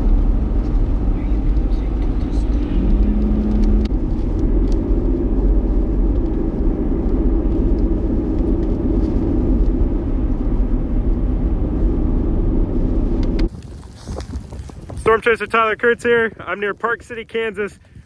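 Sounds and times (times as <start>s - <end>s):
vehicle road rumble: 0.0s - 15.6s
wind noise: 0.0s - 18.0s.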